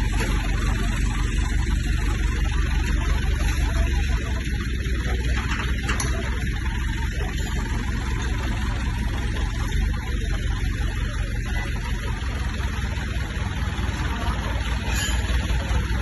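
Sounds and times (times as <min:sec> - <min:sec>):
diesel generator running: 0:00.0 - 0:16.0.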